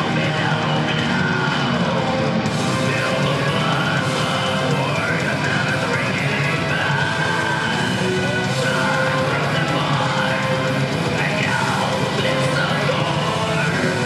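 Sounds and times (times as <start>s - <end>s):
heavy metal band playing live: 0.0s - 14.0s.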